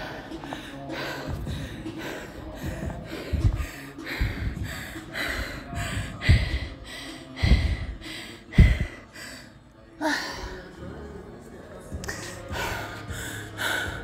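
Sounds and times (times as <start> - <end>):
person gasping breaths: 0.0 - 10.8, 12.0 - 14.0.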